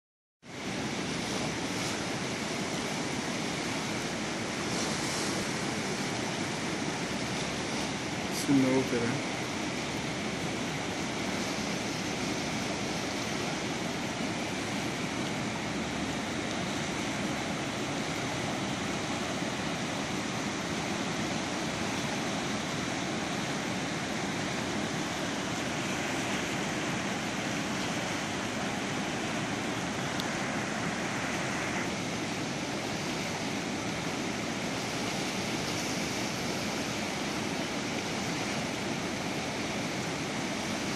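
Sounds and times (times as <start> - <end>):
river water rushing: 0.5 - 40.9.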